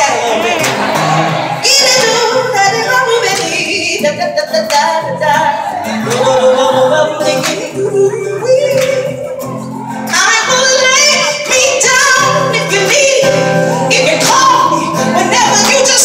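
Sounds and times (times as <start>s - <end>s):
woman singing: 0.0s - 16.0s.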